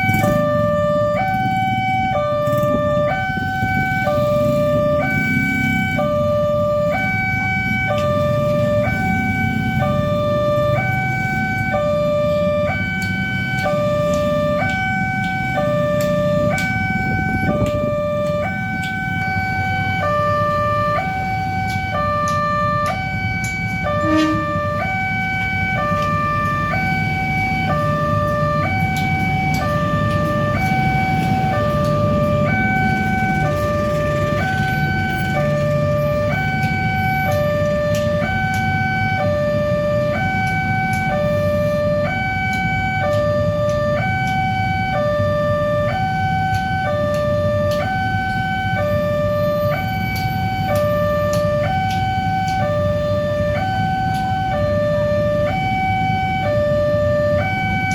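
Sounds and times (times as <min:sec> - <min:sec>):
road traffic rumble: 0:00.0 - 0:57.9
two-tone warning siren: 0:00.0 - 0:57.9.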